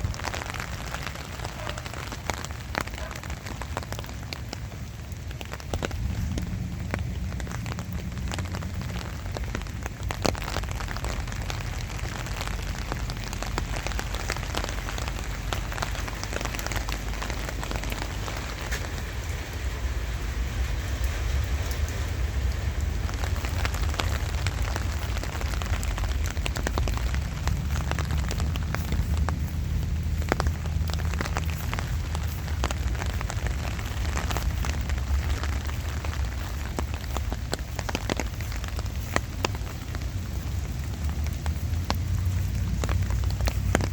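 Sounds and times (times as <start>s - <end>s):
steady low rumble: 0.0s - 1.7s, 3.7s - 43.9s
raindrops ticking: 0.0s - 43.9s.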